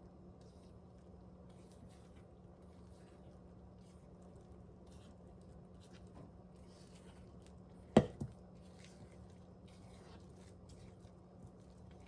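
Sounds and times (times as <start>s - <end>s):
spatula stirring batter in bowl: 0.0s - 12.0s.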